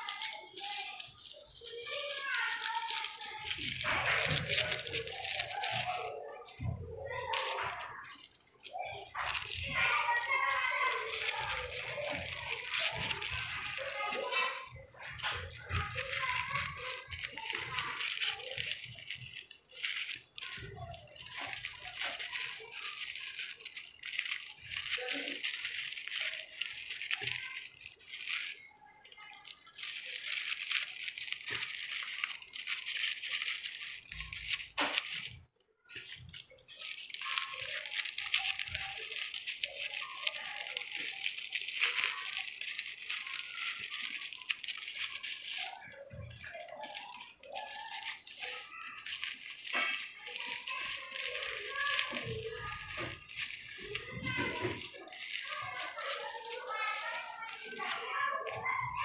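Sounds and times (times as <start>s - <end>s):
paper rustling and crinkling: 0.0s - 59.0s.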